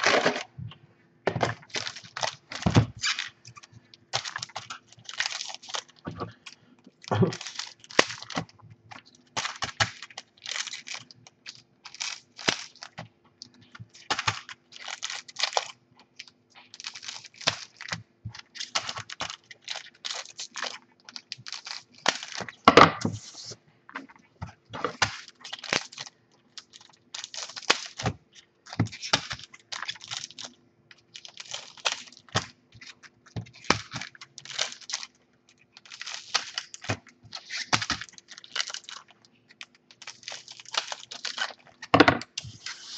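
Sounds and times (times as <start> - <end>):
scissors snipping wrappers: 1.6 - 22.6, 24.8 - 42.9.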